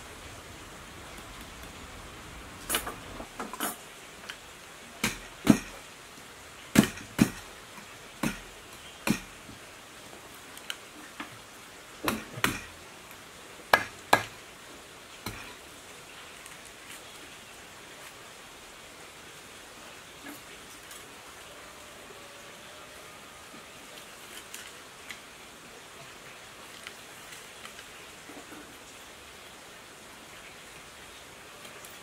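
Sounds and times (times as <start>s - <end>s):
low hiss: 0.0s - 32.0s.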